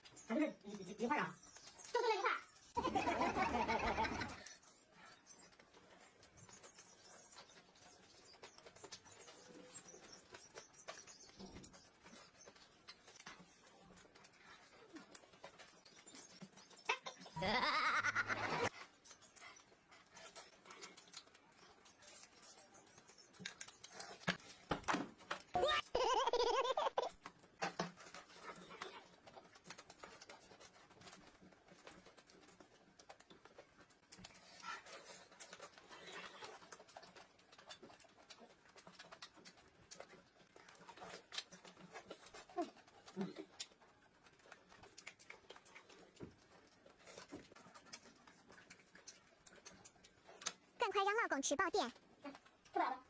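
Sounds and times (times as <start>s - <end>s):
people chewing and eating: 0.0s - 53.0s.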